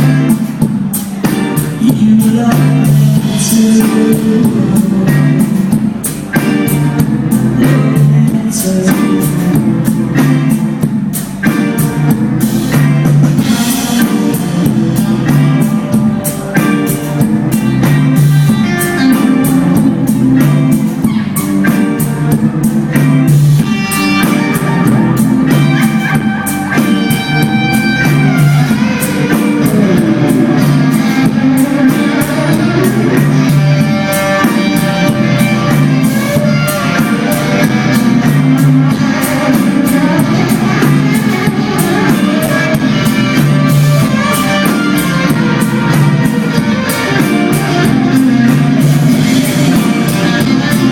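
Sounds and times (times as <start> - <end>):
live pop rock band: 0.0 - 50.9.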